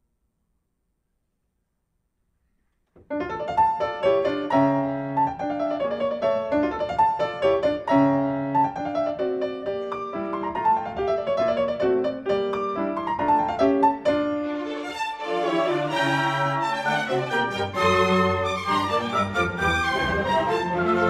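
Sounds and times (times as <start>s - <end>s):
grand piano classical music: 3.0s - 21.0s.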